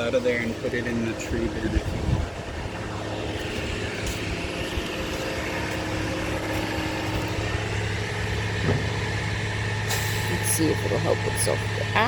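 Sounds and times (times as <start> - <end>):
machinery engine idling: 0.0 - 12.0.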